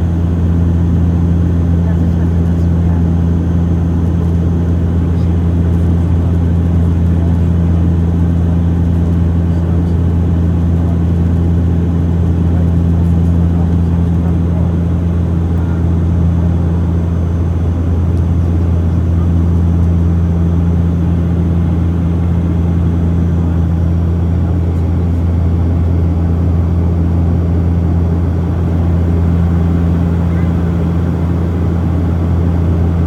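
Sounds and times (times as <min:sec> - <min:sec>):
jet engines droning: 0:00.0 - 0:33.0.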